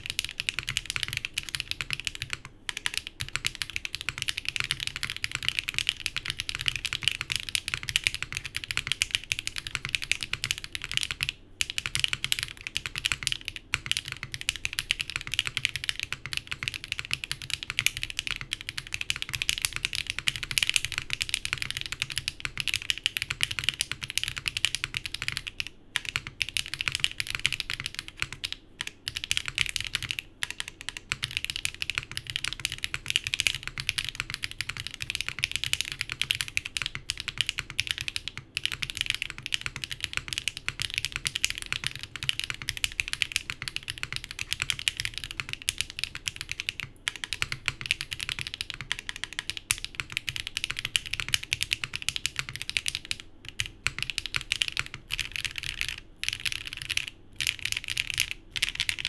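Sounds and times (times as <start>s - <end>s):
mechanical keyboard typing clacks: 0.0s - 59.0s.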